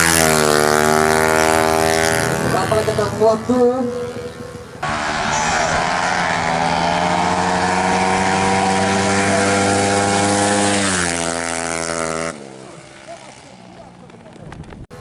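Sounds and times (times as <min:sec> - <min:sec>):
motorcycle engine at high revs: 0:00.0 - 0:14.4.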